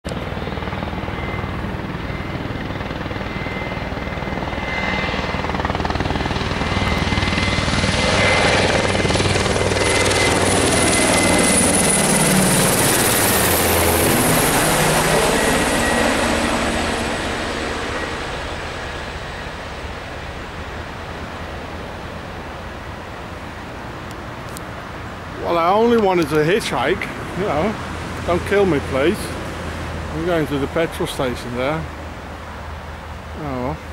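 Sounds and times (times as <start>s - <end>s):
helicopter passing overhead: 0.0s - 33.9s.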